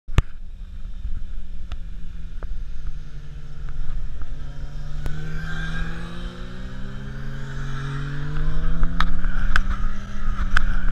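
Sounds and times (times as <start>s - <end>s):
motorcycle engine accelerating: 0.5s - 10.9s.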